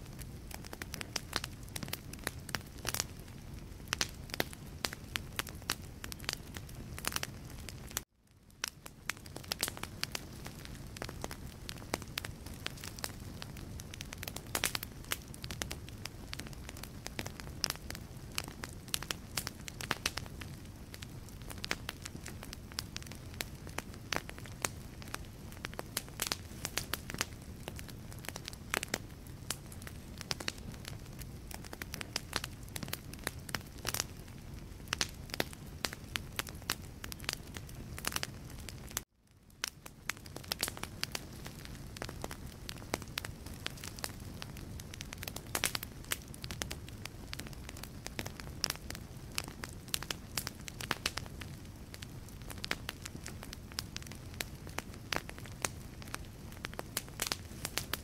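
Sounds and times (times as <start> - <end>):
logs crackling and popping: 0.0 - 58.0
low rumble of flame: 0.0 - 58.0.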